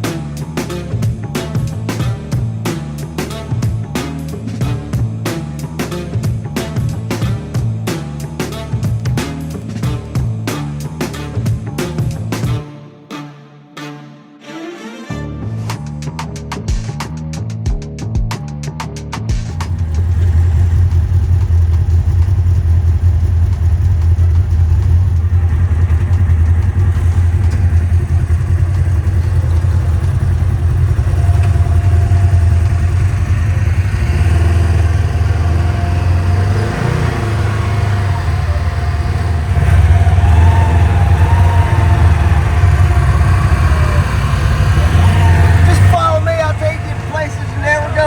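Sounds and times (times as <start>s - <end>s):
atv engine drone: 0.0s - 12.6s, 19.5s - 48.0s.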